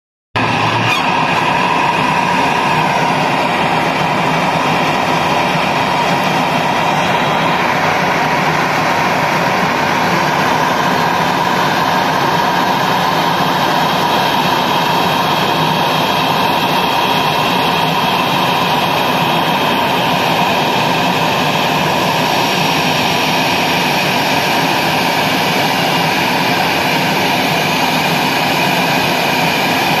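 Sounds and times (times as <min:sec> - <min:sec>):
jet engines idling whine: 0:00.4 - 0:30.0.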